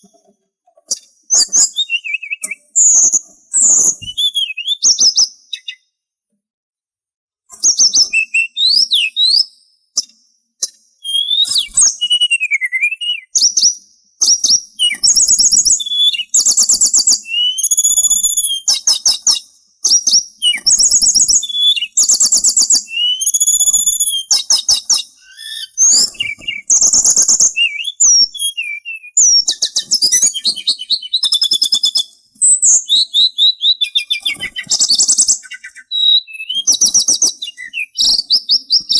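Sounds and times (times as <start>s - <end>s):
songbird singing whistles and trills: 0.0s - 6.0s, 7.5s - 38.9s.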